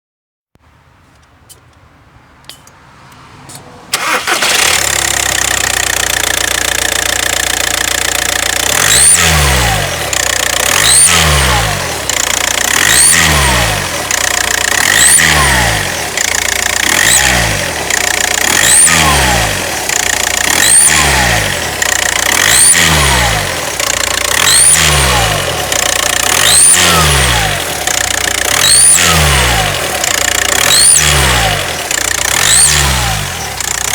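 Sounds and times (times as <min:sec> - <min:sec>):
diesel engine starting and idling: 0:03.3 - 0:33.9
engine revving: 0:03.4 - 0:33.9.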